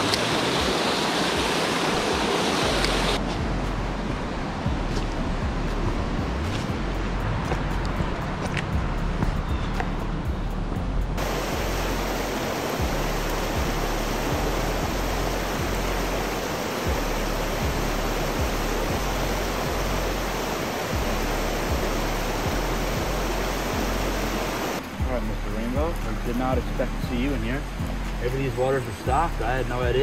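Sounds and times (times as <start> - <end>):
river rapids rushing: 0.0 - 8.7, 11.2 - 30.0.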